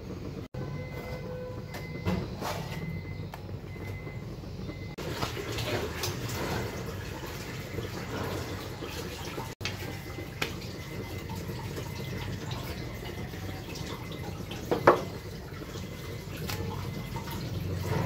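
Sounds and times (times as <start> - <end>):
gas burner hissing: 0.0 - 18.0.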